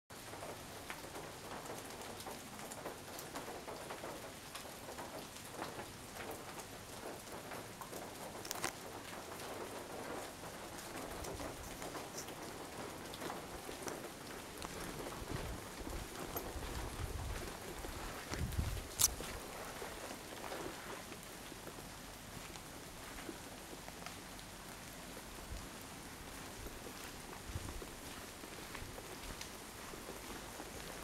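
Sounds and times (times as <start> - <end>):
rain on trees and leaves: 0.1 - 31.0.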